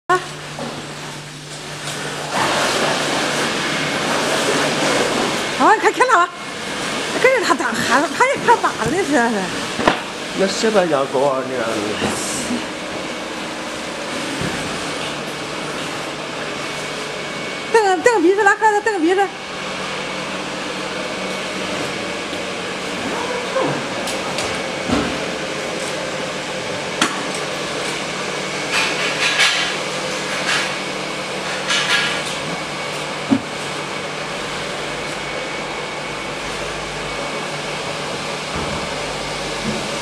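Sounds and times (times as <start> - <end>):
electric air blower humming: 0.1 - 40.0.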